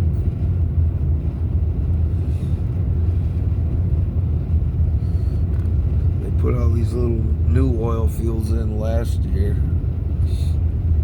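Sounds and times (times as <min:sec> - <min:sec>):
car engine: 0:00.0 - 0:11.0
road noise: 0:00.0 - 0:11.0.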